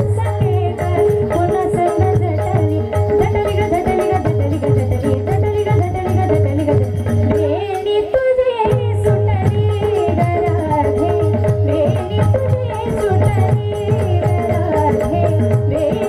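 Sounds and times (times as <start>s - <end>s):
harmonium note: 0.0s - 16.0s
rattling percussion: 0.0s - 16.0s
women singing: 0.0s - 16.0s.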